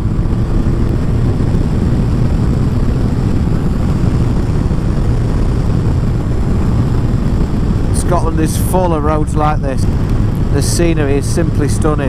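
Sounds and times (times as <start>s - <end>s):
motorcycle engine drone: 0.0s - 12.0s
wind noise: 0.0s - 12.0s.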